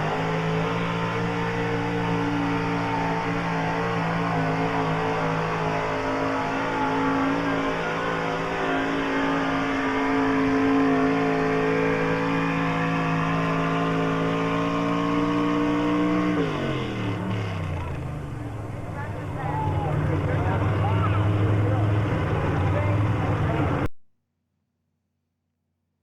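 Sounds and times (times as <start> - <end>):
truck engine at high revs: 0.0 - 23.9.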